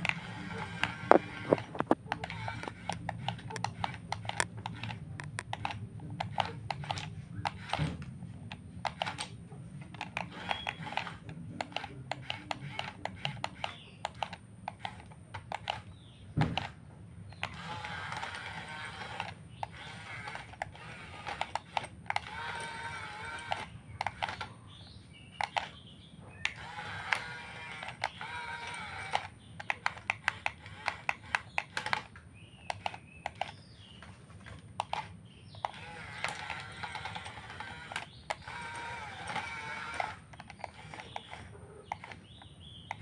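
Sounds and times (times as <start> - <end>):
small electric motors whining: 0.0 - 24.8, 26.4 - 43.0.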